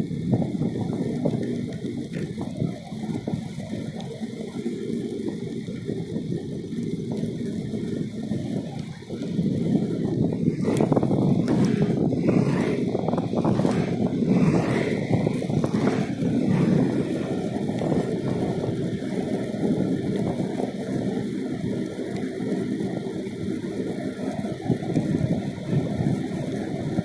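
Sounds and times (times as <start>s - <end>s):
rattling noise: 0.0s - 23.0s
wheels rolling on asphalt: 0.0s - 27.0s
wind rushing over microphone: 0.0s - 27.0s.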